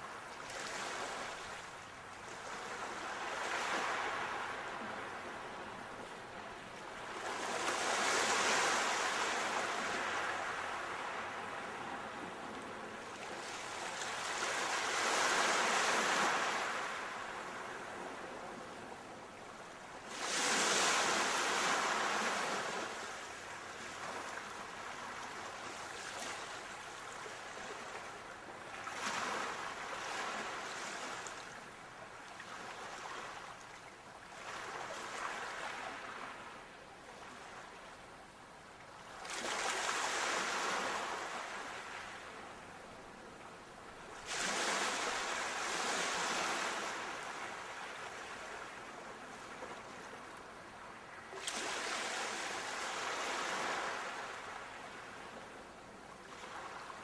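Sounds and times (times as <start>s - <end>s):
sea waves breaking on shore: 0.0s - 18.8s, 19.6s - 37.8s, 39.1s - 43.0s, 43.8s - 57.0s.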